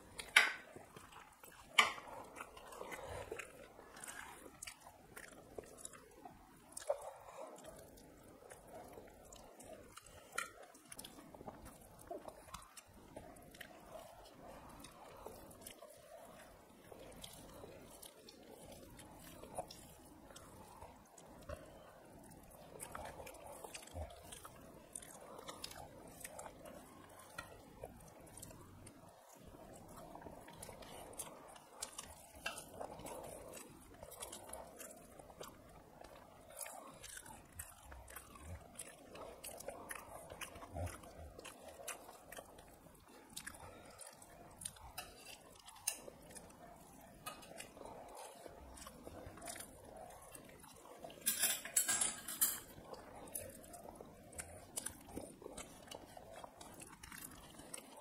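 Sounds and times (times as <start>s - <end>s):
people chewing with mouth clicks: 0.0s - 58.0s.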